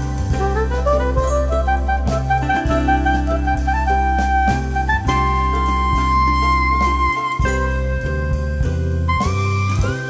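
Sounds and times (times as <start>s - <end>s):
jazz music with saxophone: 0.0s - 10.0s.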